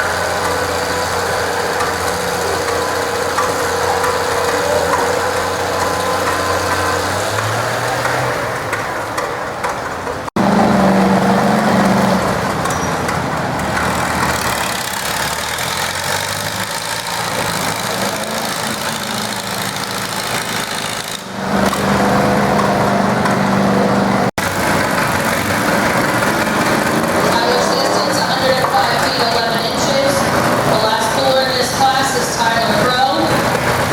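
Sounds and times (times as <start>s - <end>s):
tractor engines under load: 0.0s - 33.9s.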